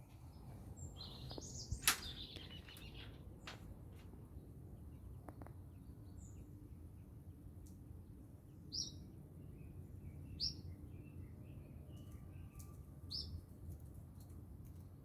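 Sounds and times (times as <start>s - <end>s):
small birds chirping: 0.1s - 7.8s, 8.4s - 14.4s.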